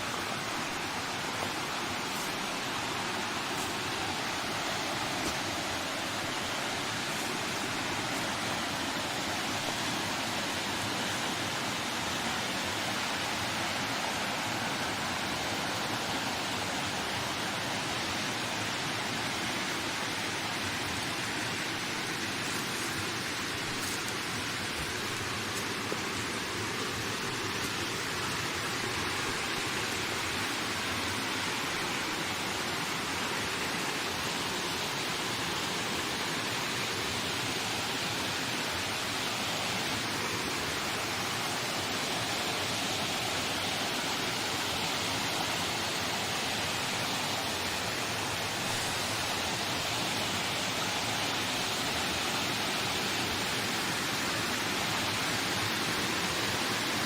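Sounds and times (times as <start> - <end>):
wind rushing in a forest: 0.0 - 57.0.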